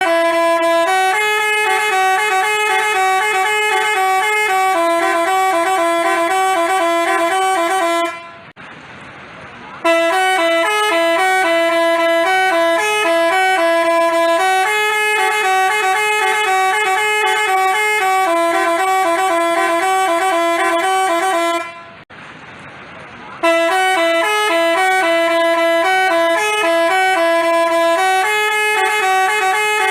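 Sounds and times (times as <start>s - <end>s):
multi-tone bus horn melody: 0.0s - 8.6s, 9.8s - 22.1s, 23.4s - 29.9s.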